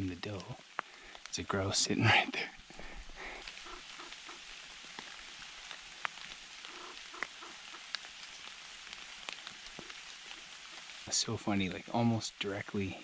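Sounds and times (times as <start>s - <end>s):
light rain on leaves: 0.0s - 13.0s
raindrop ticks: 0.0s - 13.0s.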